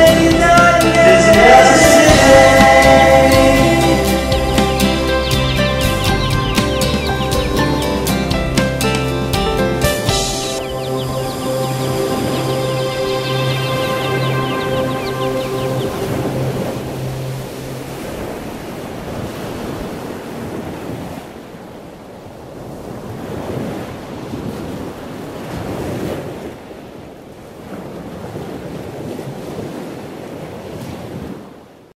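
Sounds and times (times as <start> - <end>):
waves breaking and washing back: 0.0 - 31.9.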